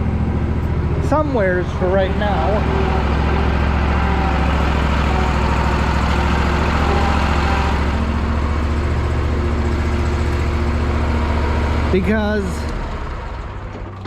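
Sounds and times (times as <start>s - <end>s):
engine running at low speed: 0.0s - 14.0s.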